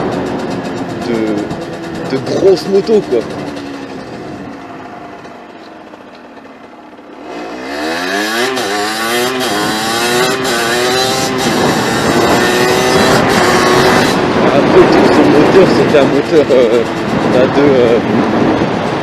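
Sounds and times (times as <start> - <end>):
motorbike engine accelerating: 0.0 - 19.0.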